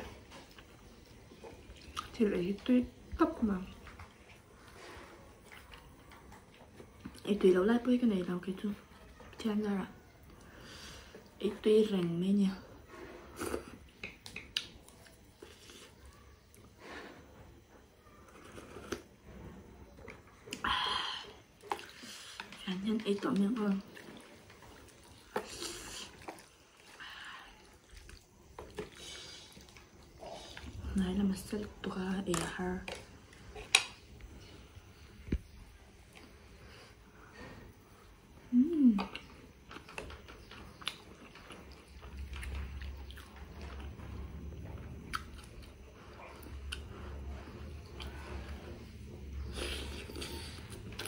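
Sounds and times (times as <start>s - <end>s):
wet noodle sounds: 0.0s - 51.0s.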